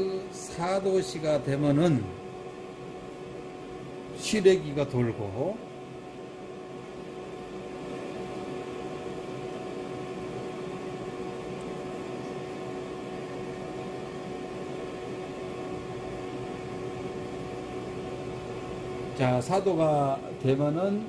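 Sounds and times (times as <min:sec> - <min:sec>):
fan humming: 0:00.0 - 0:21.0.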